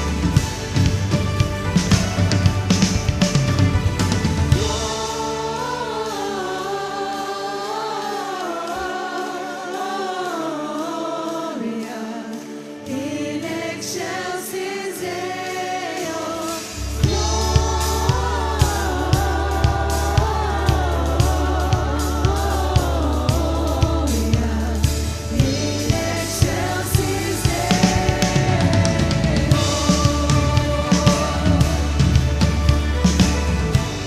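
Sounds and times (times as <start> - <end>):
group singing with band: 0.0 - 3.2, 4.0 - 34.0.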